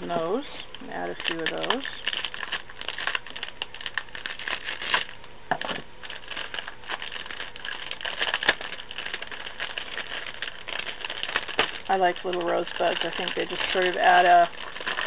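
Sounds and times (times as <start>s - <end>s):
crinkling packaging: 0.0s - 15.0s.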